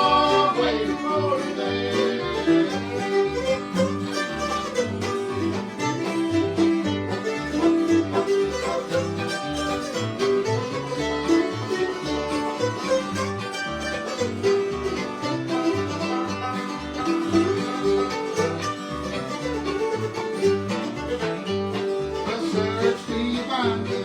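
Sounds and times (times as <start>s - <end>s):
fiddle: 0.0s - 24.0s
plucked strings: 0.0s - 24.0s.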